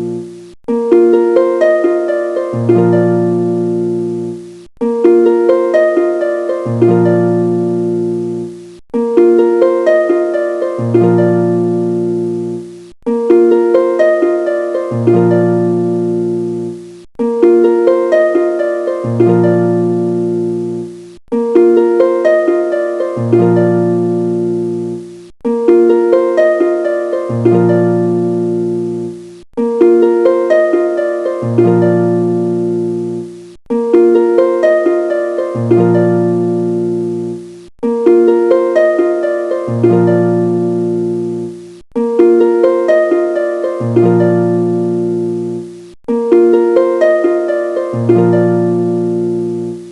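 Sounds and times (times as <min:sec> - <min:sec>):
plucked harp-like music: 0:00.0 - 0:49.9.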